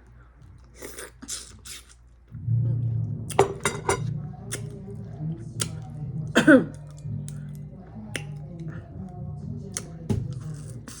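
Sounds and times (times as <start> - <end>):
bass-heavy music from another room: 2.2 - 11.0.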